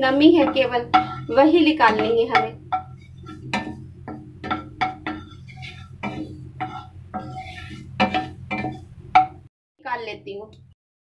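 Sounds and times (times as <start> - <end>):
low steady hum: 0.0 - 10.8
wooden spatula knocking on pan: 0.2 - 9.5.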